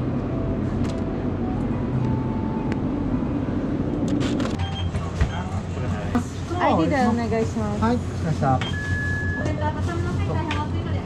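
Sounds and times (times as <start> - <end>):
refrigerator hum: 0.0 - 11.0.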